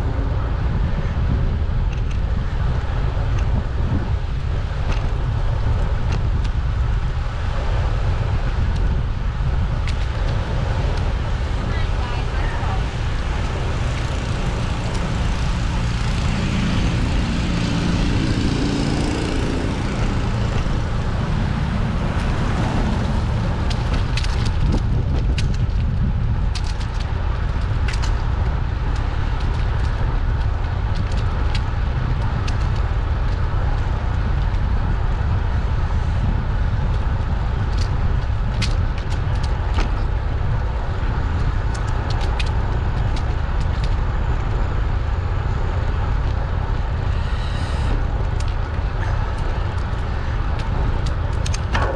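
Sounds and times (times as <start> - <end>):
passing vehicle: 0.0 - 51.9
wind buffeting microphone: 0.0 - 51.9.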